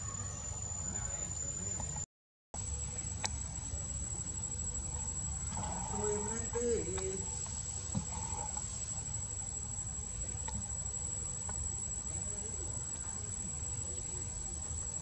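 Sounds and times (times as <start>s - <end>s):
high-pitched insect drone: 0.0s - 2.0s, 2.6s - 15.0s.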